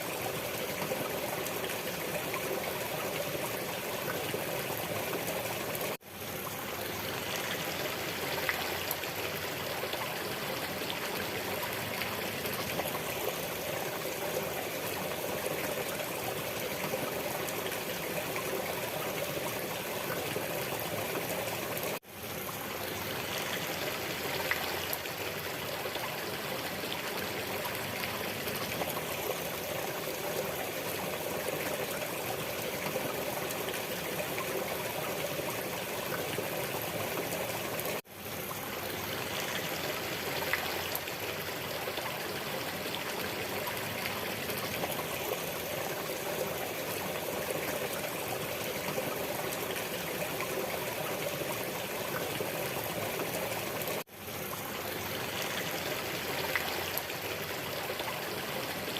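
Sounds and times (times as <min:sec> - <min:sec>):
stream trickling: 0:00.0 - 0:58.9.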